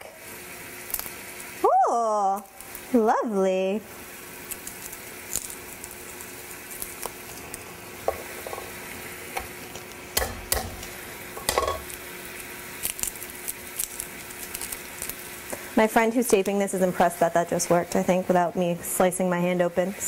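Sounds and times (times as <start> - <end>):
scallops sizzling in a frying pan: 0.0 - 20.0.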